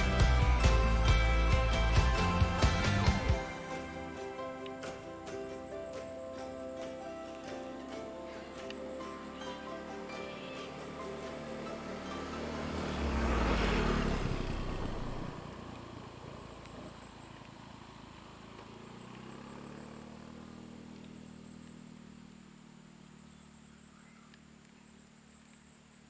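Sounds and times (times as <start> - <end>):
engine passing by: 0.0 - 23.3
low engine hum: 0.0 - 26.0.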